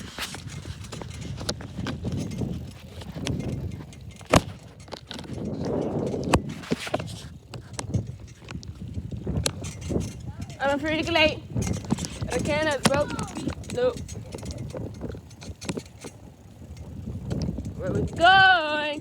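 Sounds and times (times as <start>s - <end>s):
camera jostling: 0.0s - 10.3s, 11.0s - 17.8s
bicycle rattling and knocking: 0.0s - 19.0s
low riding rumble: 0.0s - 19.0s.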